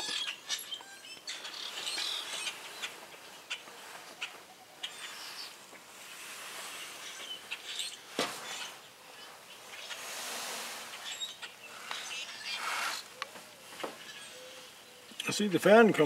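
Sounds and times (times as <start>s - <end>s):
faint bird chirps: 0.0s - 5.7s, 6.5s - 15.4s.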